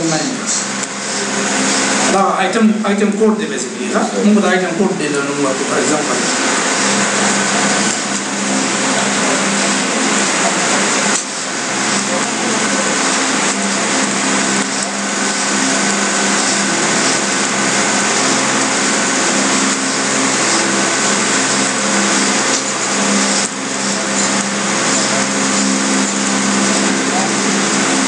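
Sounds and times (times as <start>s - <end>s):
buzzing hum: 0.0s - 28.0s
loud steady hiss: 0.0s - 28.0s.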